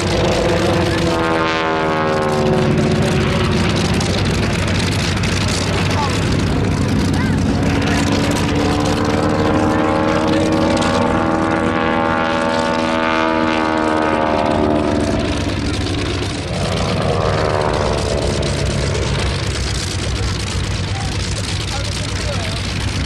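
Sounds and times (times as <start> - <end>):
biplane engine droning overhead: 0.0 - 23.0.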